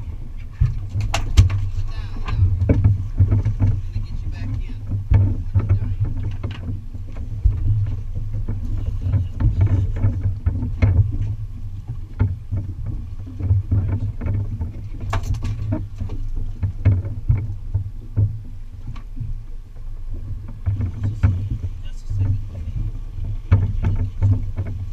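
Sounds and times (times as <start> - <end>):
boat engine low rumble: 0.0 - 24.9
water splashing against hull: 0.0 - 24.9.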